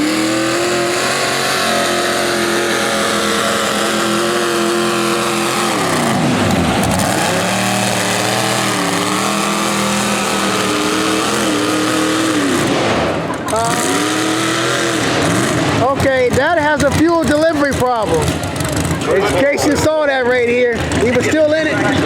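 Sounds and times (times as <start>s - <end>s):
tractor engine running at high revs: 0.0s - 22.0s.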